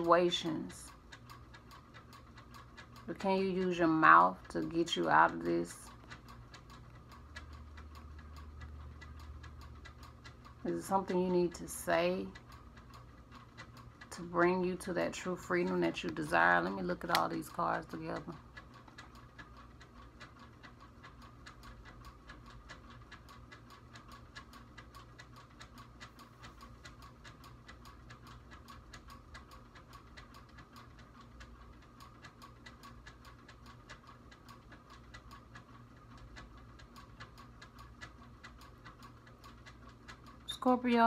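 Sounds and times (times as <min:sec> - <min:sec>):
faint steady ticking: 0:00.0 - 0:41.0.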